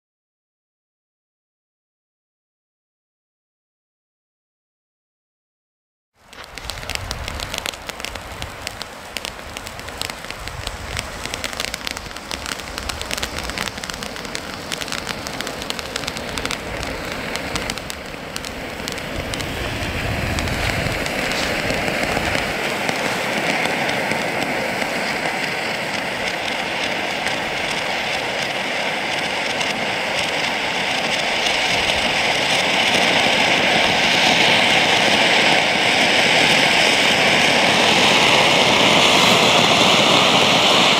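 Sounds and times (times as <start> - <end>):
fine crackling: 6.2 - 40.9
firework fountain hissing sparks: 6.2 - 40.9.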